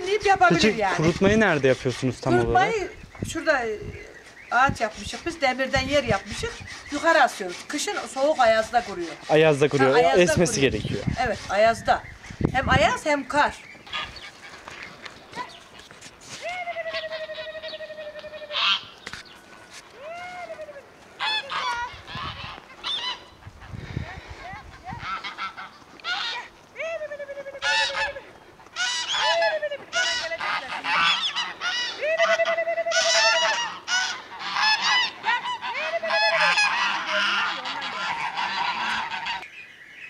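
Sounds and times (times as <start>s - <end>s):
geese honking: 0.0s - 3.6s, 4.4s - 19.0s, 19.9s - 26.6s, 27.2s - 39.5s.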